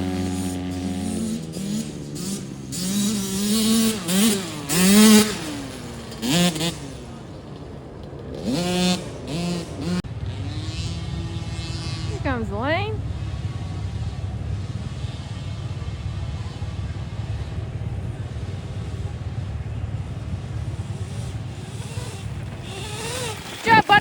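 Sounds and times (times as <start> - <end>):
dirt bike engines revving: 0.0 - 24.0
steady engine drone: 0.0 - 24.0.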